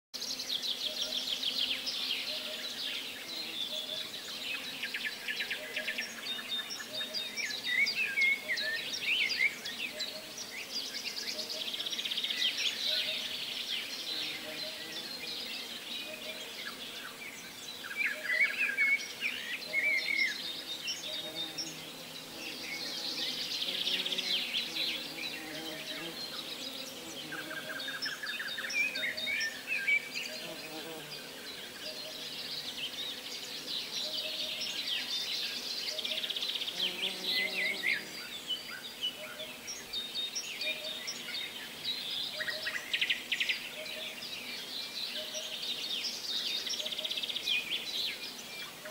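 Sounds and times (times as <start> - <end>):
songbirds singing: 0.2 - 48.9.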